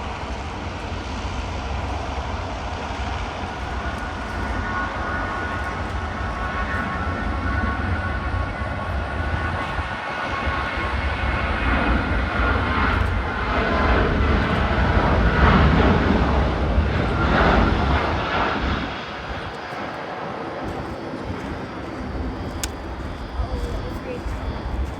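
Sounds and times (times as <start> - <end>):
jet engines at takeoff: 0.0 - 24.9.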